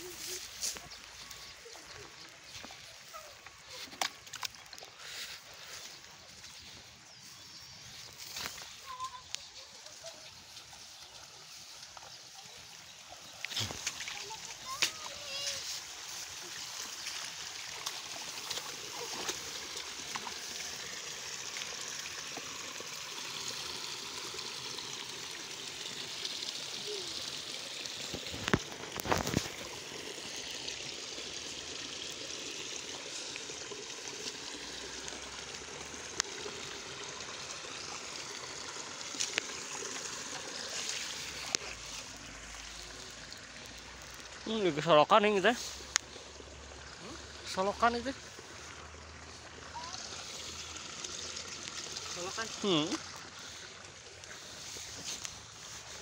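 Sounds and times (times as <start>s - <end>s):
water running in ditch: 0.0s - 56.0s.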